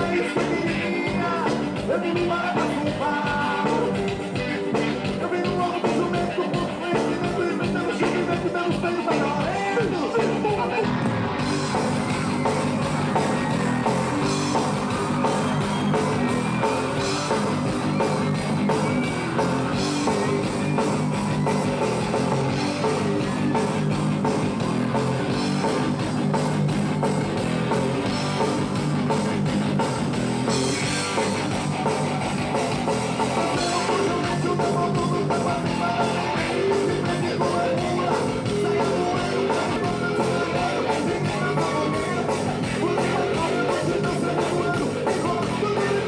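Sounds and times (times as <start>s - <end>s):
drum kit: 0.0s - 46.0s
electric guitars: 0.0s - 46.0s.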